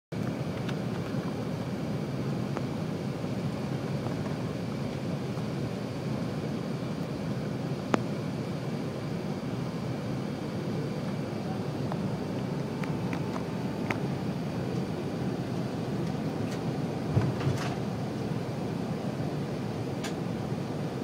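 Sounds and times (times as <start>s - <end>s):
airplane cabin roar: 0.1s - 21.0s.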